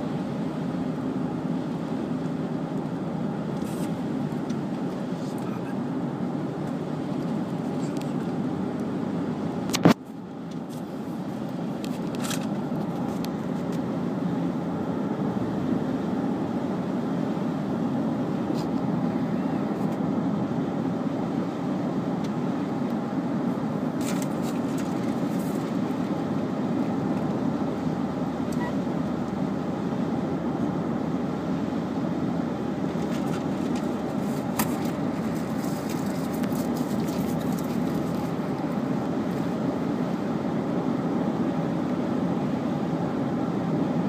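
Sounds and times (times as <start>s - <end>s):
car cabin road and engine noise: 0.0s - 44.0s.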